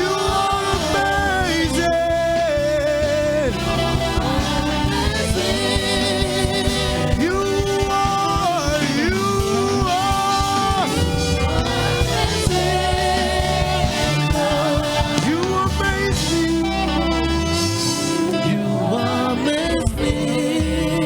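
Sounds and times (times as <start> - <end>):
gospel band bass and drums: 0.0 - 21.0.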